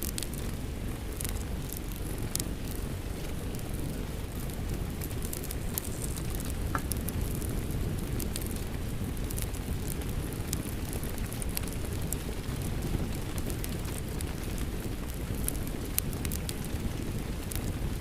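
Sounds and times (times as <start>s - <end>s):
rain: 0.0s - 18.0s
wood fire crackling and popping: 0.0s - 18.0s.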